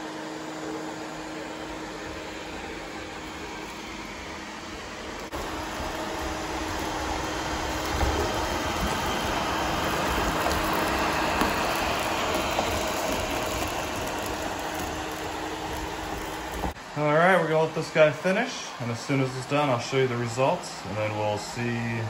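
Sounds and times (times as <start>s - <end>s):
robot vacuum whirring: 0.6s - 22.0s.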